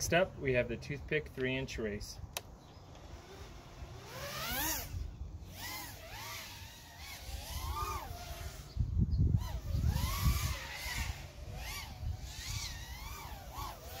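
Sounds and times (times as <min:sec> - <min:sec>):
racing drone motor whine: 0:02.6 - 0:14.0.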